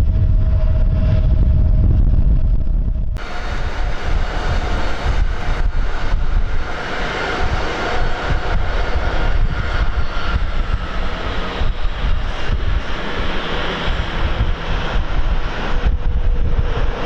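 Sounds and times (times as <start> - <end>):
wind buffeting microphone: 0.0 - 17.0
jet engines whining: 3.2 - 17.0.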